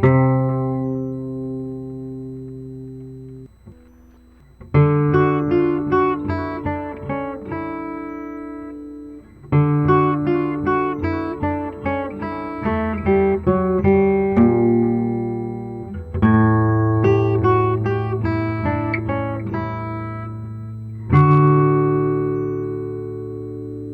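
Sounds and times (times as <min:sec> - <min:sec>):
held bass notes: 0:00.0 - 0:23.9
picked guitar chords: 0:00.0 - 0:23.9.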